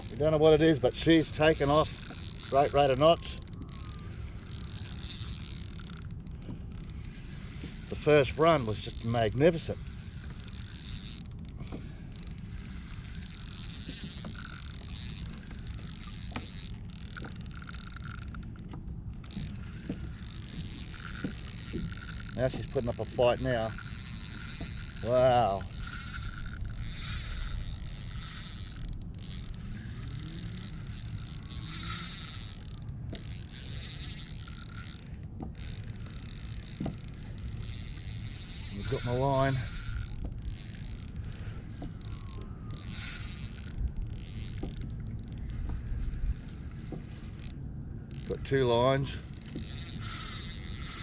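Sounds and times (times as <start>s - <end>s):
fishing reel ticking: 0.0s - 51.0s
steady low rumble: 0.0s - 51.0s.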